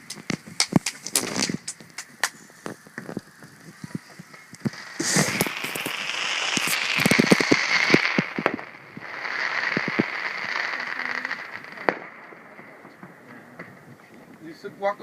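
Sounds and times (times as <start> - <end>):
fireworks crackling and popping: 0.0 - 15.0
sizzling hiss: 0.0 - 15.0
firework bang: 0.1 - 14.6.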